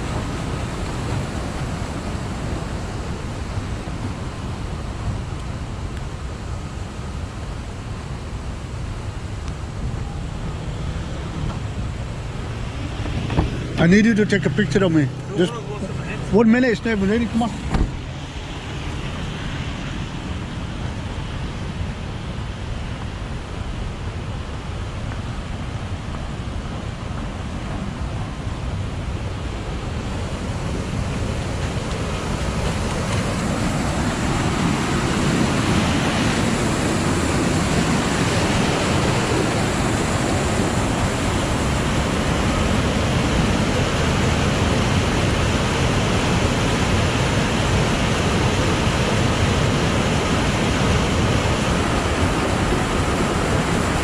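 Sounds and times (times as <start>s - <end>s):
fast-flowing water rushing: 0.0s - 54.0s.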